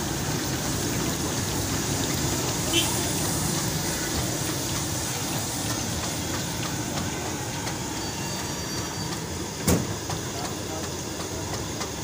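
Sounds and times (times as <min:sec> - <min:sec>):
flatbread sizzling in hot oil: 0:00.0 - 0:10.0
low street rumble: 0:00.0 - 0:12.0.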